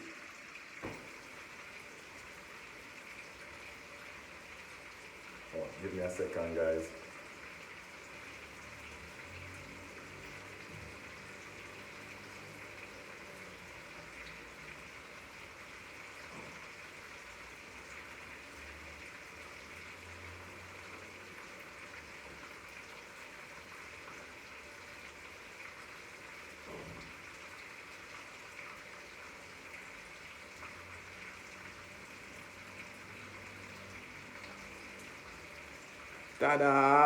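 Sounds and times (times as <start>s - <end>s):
oil sizzling in a pan: 0.0s - 37.0s.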